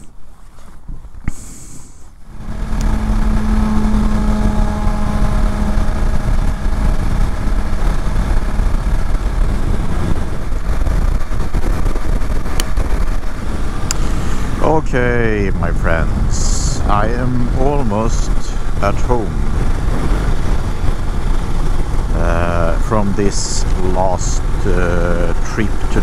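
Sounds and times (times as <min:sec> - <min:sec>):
wind and road noise: 0:00.0 - 0:26.0
motorcycle engine cruising: 0:02.1 - 0:26.0.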